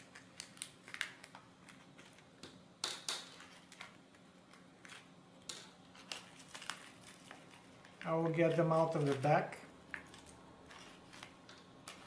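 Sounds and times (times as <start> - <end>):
plastic bag crinkling: 0.0 - 2.4, 3.2 - 12.0.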